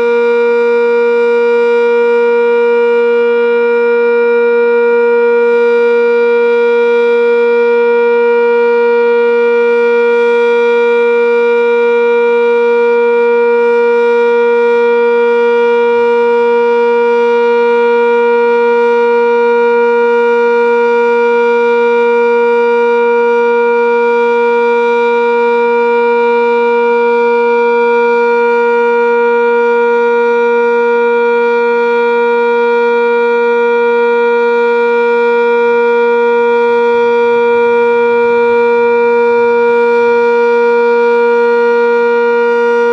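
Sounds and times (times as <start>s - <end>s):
warning siren steady tone: 0.0s - 42.9s.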